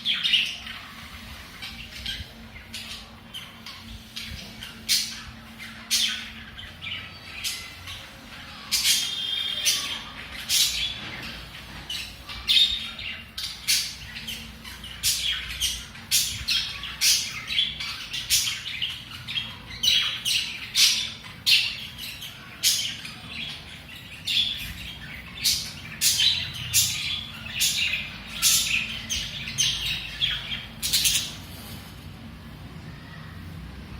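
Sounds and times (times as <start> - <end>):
budgerigars chirping and squawking: 0.0 - 31.9.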